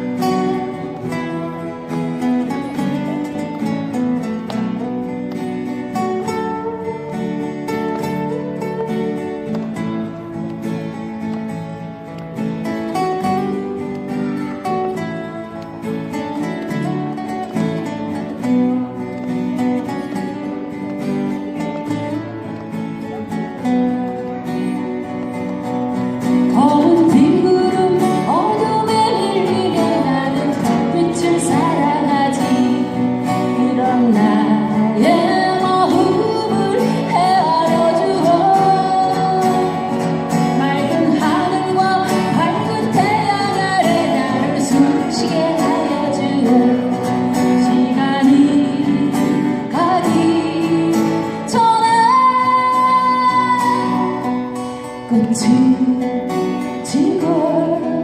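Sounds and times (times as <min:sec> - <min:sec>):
strummed acoustic guitar: 0:00.0 - 0:58.0.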